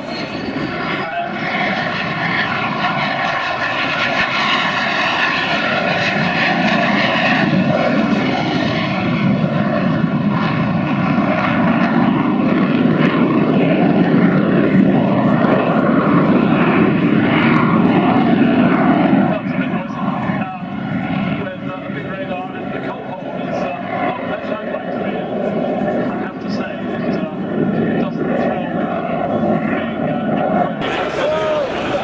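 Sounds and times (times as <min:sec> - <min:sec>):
jet aircraft flying past: 0:00.0 - 0:32.0.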